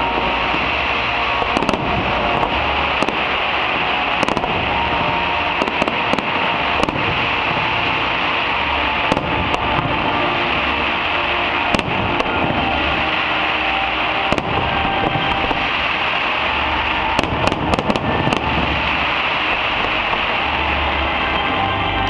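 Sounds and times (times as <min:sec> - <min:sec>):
fireworks bangs: 0:00.0 - 0:21.7
fireworks crackling: 0:00.0 - 0:22.0.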